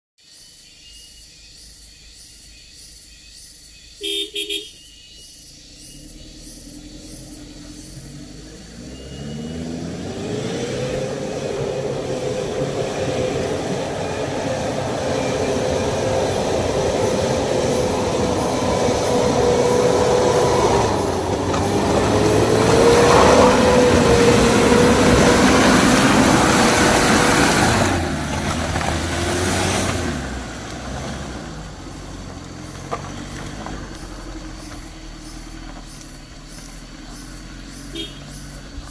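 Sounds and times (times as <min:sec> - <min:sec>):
road noise: 0:00.2 - 0:38.9
pickup engine whining under load: 0:04.0 - 0:38.9.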